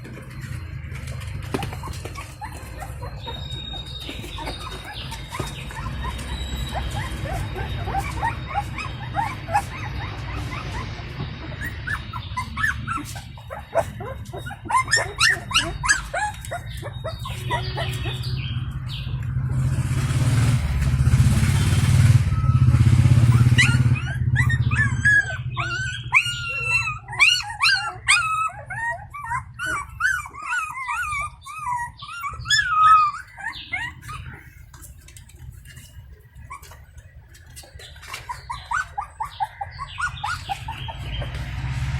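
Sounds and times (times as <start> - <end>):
puppies whimpering and squealing: 0.0 - 19.2, 22.2 - 41.9.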